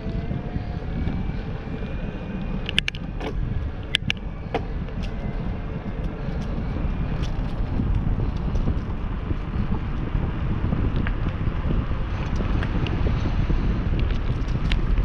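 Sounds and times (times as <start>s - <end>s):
bike clicks and rattles: 0.0s - 15.0s
bike tyre rumble on asphalt: 0.0s - 15.0s
wind buffeting microphone: 0.0s - 15.0s.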